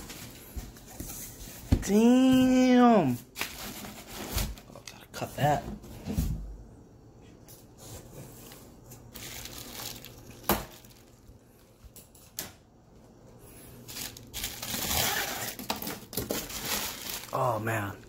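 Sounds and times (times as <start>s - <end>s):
bubble wrap and cardboard rustling: 0.0s - 6.3s, 7.8s - 11.9s, 13.5s - 18.0s.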